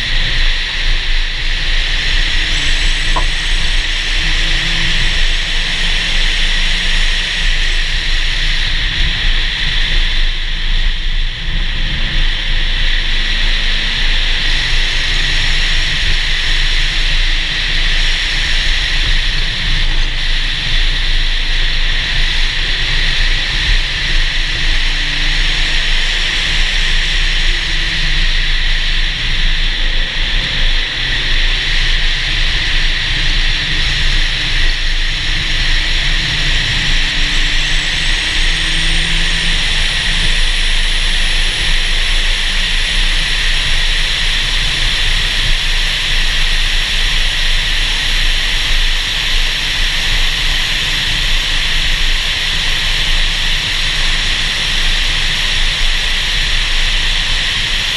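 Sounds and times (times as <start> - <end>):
low engine rumble: 0.0 - 57.9
wind and road noise: 0.0 - 57.9.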